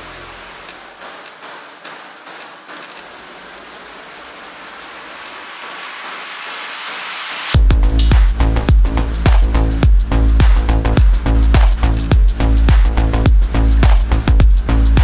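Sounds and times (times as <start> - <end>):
electronic hiss with crackles: 0.0 - 15.0.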